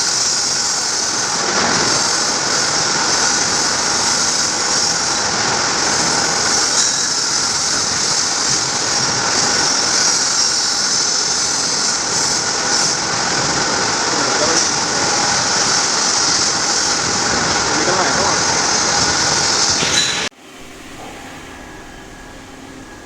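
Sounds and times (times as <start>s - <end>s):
machine running with hiss: 0.0s - 23.0s.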